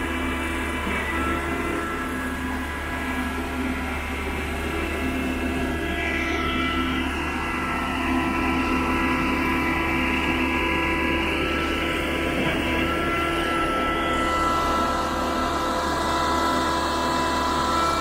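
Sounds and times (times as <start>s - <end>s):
high whining tones: 0.0s - 18.0s
machinery low hum: 0.0s - 18.0s.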